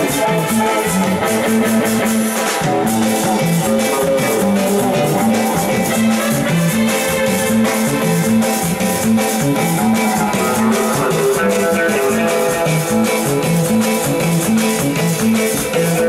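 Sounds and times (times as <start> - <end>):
drums keeping a beat: 0.0 - 16.0
electric bass: 0.0 - 16.0
electric guitar: 0.0 - 16.0.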